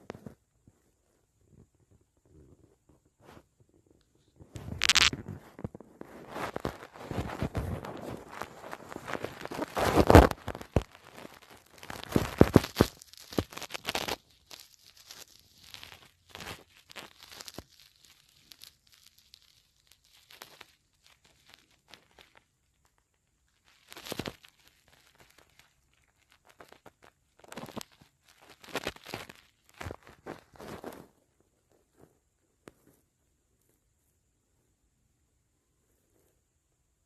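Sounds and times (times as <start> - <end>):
rustling and crinkling: 0.0 - 37.0.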